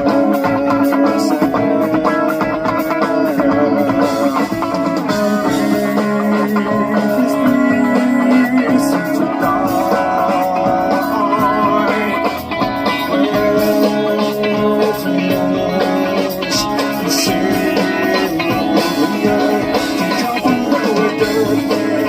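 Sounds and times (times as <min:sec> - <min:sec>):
band music: 0:00.0 - 0:22.0
sustained guitar notes: 0:00.0 - 0:22.0.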